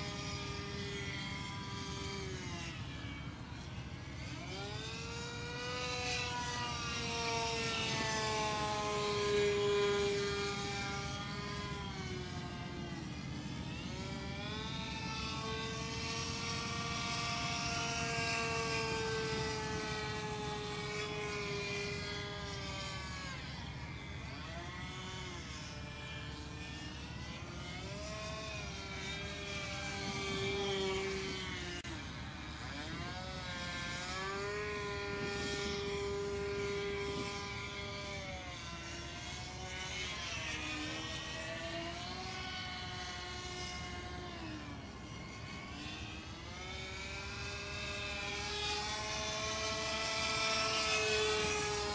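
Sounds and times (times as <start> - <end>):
model plane engine passing: 0.0 - 51.9.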